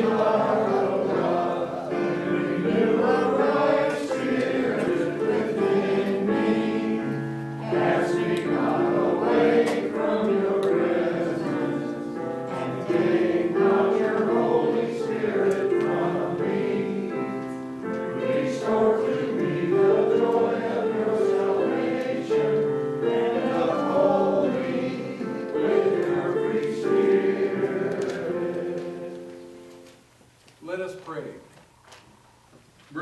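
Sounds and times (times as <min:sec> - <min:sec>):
congregation singing a hymn: 0:00.0 - 0:30.0.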